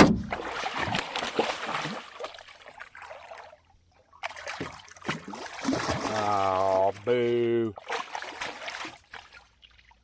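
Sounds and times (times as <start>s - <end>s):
fish thrashing water splashing: 0.0s - 3.6s, 4.2s - 10.0s.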